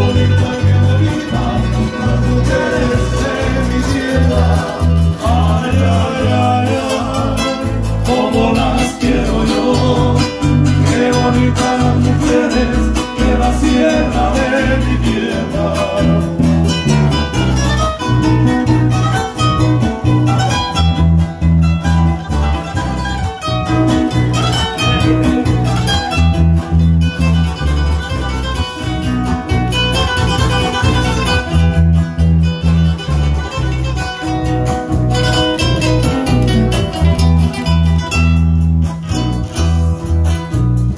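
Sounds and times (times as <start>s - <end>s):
acoustic guitar: 0.0s - 40.9s
electric bass line: 0.0s - 40.9s
keyboard: 0.0s - 40.9s.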